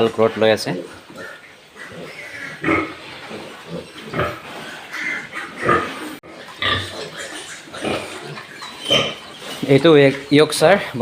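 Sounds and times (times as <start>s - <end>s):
pigs calling: 0.0s - 11.0s.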